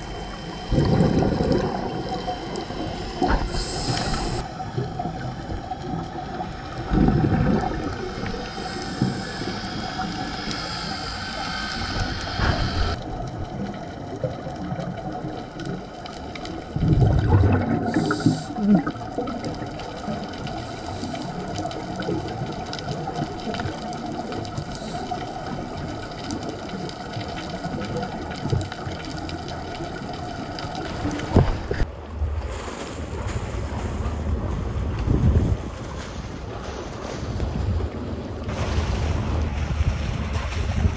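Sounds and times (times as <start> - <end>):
regulator bubbles gurgling: 0.0 - 36.6
underwater water rush: 0.0 - 40.9.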